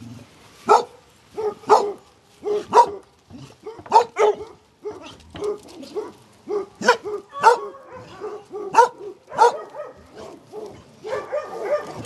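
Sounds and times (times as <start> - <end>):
dogs barking: 0.6 - 12.0.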